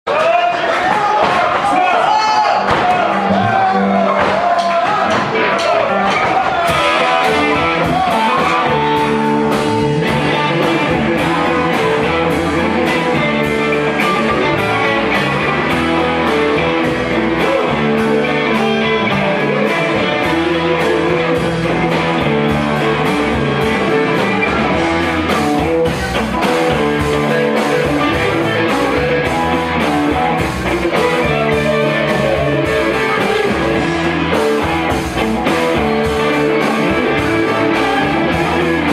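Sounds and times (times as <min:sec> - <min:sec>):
drums keeping a beat: 0:00.1 - 0:38.9
electric guitars: 0:00.1 - 0:38.9.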